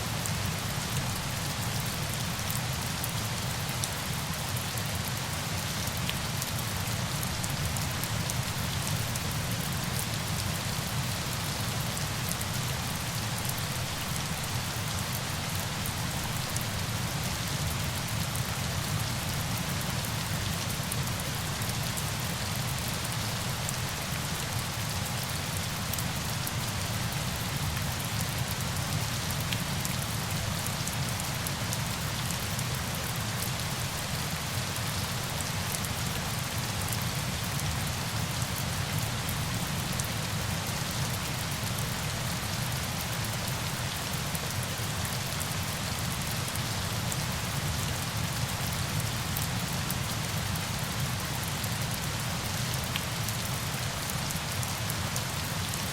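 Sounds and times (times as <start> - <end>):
rush of falling water: 0.0 - 55.9.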